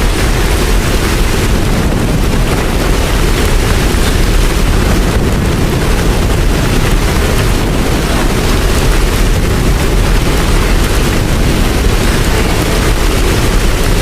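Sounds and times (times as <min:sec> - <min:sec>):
deep rumble: 0:00.0 - 0:14.0
heavy rain: 0:00.0 - 0:14.0.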